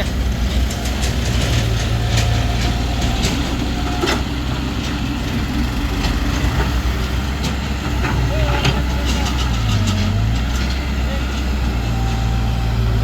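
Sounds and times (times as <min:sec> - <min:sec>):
diesel tractor engine droning: 0:00.0 - 0:13.0.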